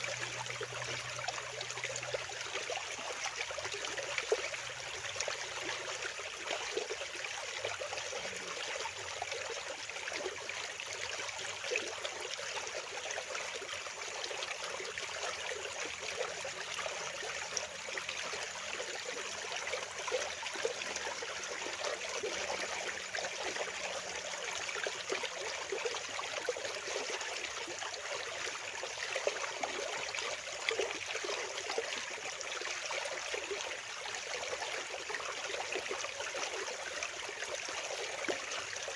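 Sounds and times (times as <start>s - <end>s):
water rushing and babbling: 0.0s - 38.9s.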